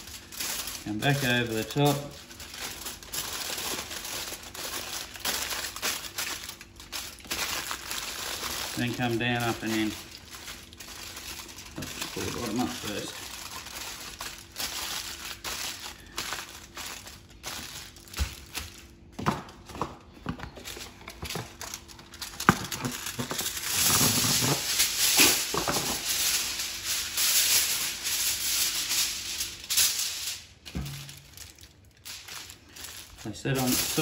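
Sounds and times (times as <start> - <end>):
foil tearing: 0.0 - 19.0, 20.7 - 34.0
aluminium foil crinkling: 0.0 - 19.8, 20.4 - 34.0.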